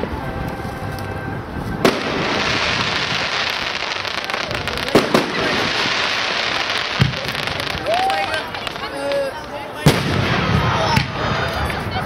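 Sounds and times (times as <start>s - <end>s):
firework crackling hiss: 0.3s - 11.9s.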